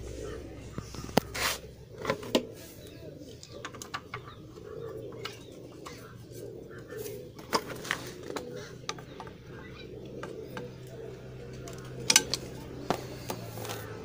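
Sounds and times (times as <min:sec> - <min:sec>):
pigeon cooing: 0:00.0 - 0:14.0.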